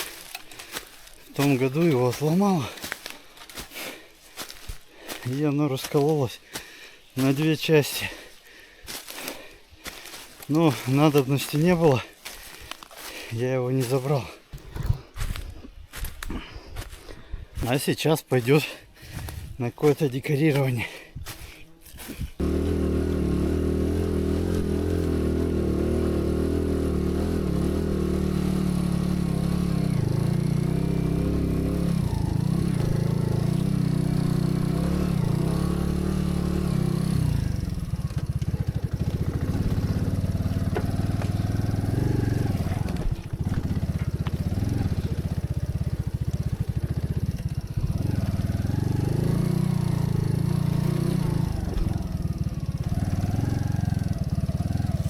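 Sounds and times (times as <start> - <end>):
small engine running: 0.0 - 5.3, 7.2 - 17.0, 20.8 - 55.0.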